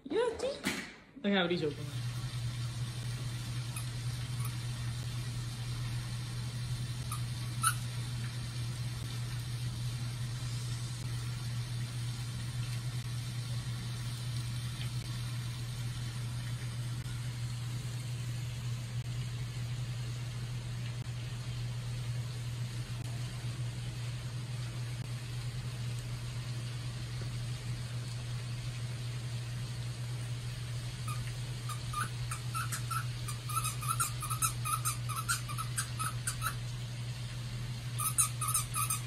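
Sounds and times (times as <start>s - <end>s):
low machine hum: 1.2s - 39.0s.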